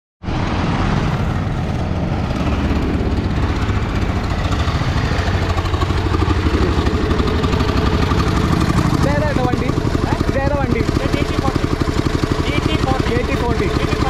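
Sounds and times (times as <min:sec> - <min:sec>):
diesel tractor engine running: 0:01.2 - 0:14.0.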